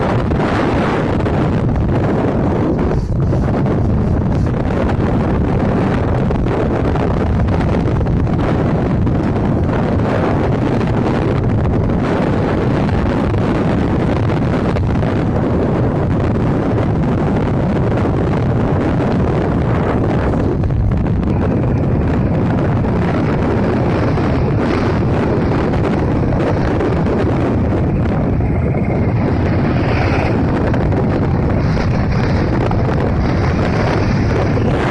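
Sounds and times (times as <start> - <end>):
motorcycle engine running: 0.0 - 34.9
wind buffeting microphone: 0.0 - 34.9.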